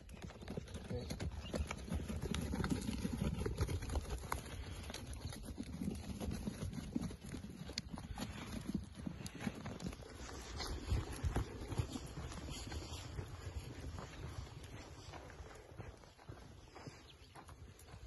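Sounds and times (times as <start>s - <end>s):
sheep hooves trotting on sand: 0.0s - 18.0s.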